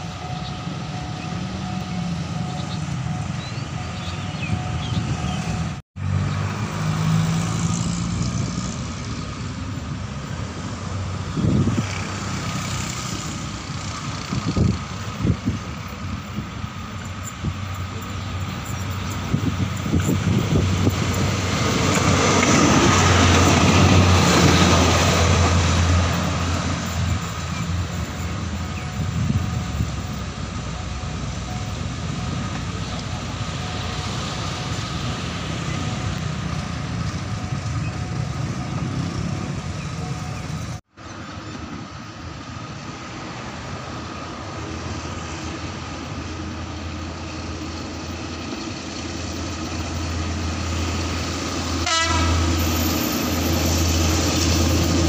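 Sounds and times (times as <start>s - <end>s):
diesel railcar passing: 0.0s - 55.0s.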